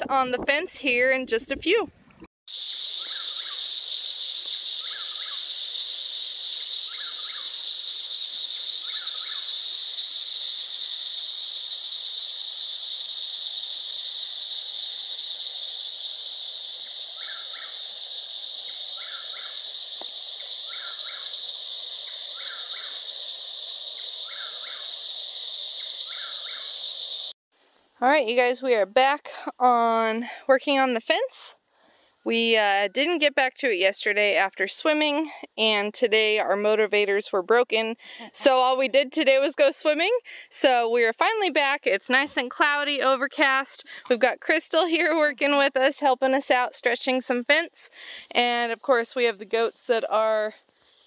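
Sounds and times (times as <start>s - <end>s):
high-pitched insect chorus: 2.5s - 36.8s, 37.6s - 51.0s.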